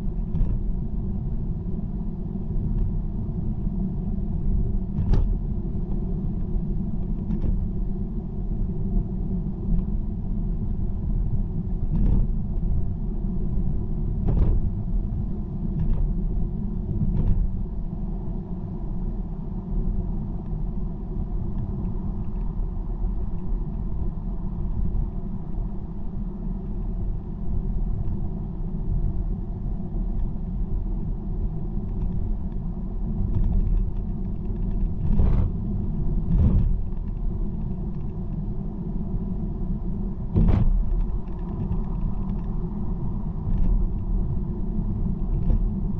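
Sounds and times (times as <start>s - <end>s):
tyre and road noise: 2.5s - 45.9s.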